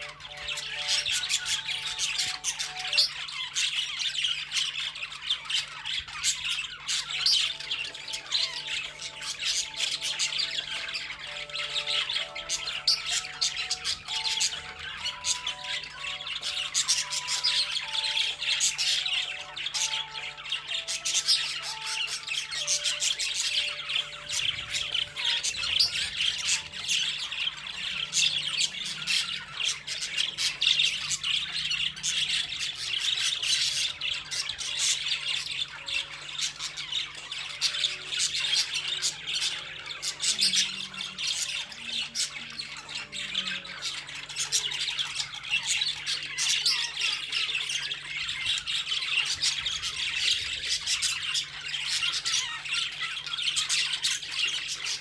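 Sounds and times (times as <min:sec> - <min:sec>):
cockatiel chattering and squawking: 0:00.0 - 0:55.0.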